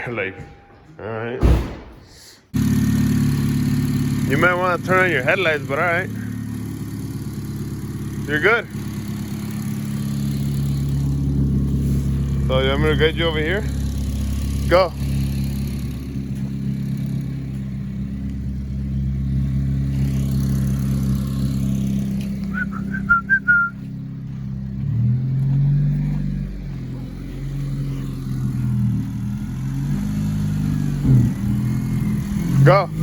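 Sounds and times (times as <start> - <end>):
car engine running: 2.5 - 33.0.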